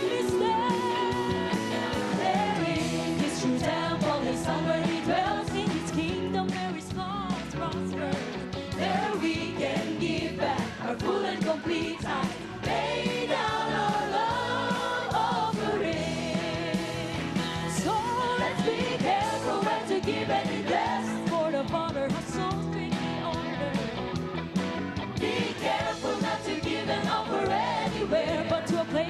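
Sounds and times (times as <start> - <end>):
voices singing held notes: 0.0 - 6.2, 8.0 - 21.7, 25.2 - 29.0
band accompaniment: 0.0 - 29.0.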